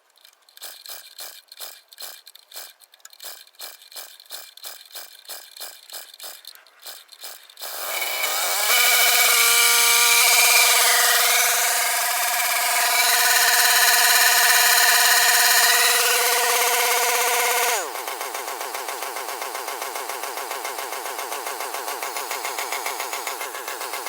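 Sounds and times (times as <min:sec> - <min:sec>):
brush cutter engine: 0:02.6 - 0:24.0.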